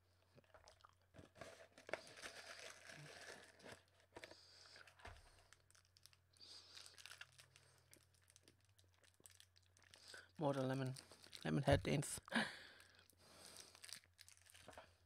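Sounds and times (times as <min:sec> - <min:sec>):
candy wrappers crinkling: 0:00.4 - 0:12.0, 0:12.6 - 0:15.0.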